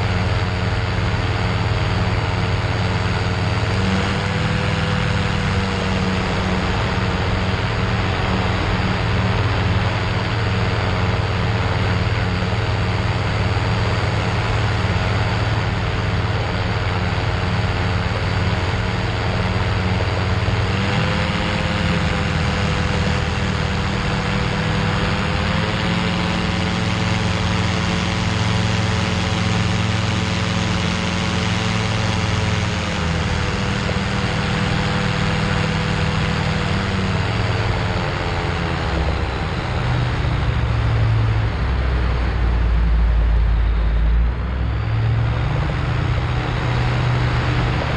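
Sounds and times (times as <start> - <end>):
aircraft engine and propeller drone: 0.0 - 47.9
low rumble: 0.0 - 47.9.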